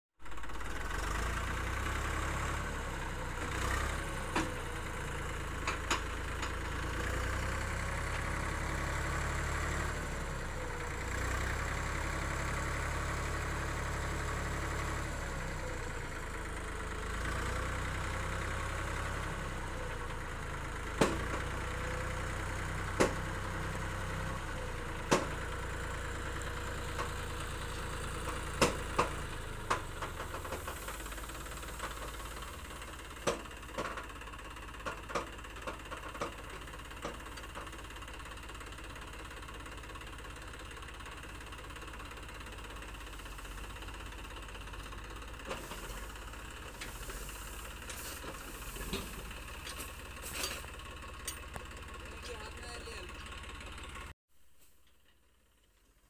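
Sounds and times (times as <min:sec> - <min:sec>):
tractor diesel engine running: 0:00.2 - 0:54.2, 0:54.8 - 0:56.0.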